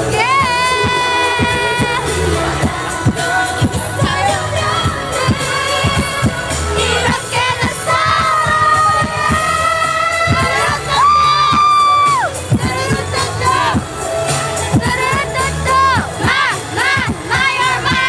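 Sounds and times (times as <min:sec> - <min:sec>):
pop song with female singing: 0:00.0 - 0:18.0.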